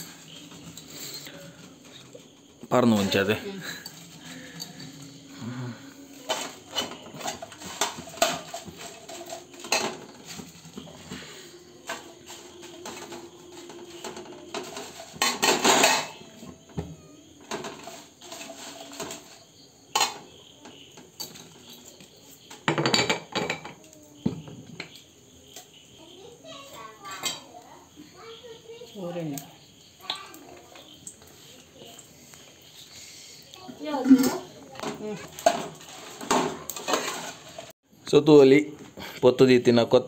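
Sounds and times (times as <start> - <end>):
metal utensils and dishes clattering: 0.0 - 25.8, 26.6 - 27.6, 30.0 - 37.8.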